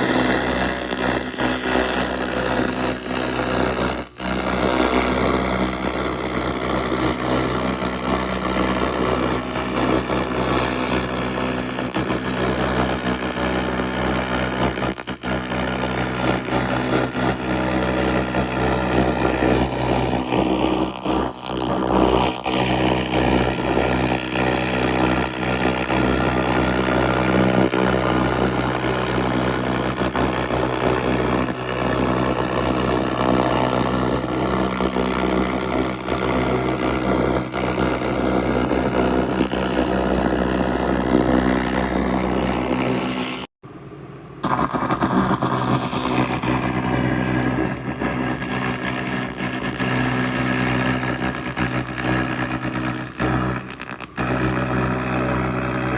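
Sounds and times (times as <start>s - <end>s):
laser crackling buzz on metal: 0.0s - 43.5s, 44.4s - 55.9s
machine low hum: 0.0s - 55.9s.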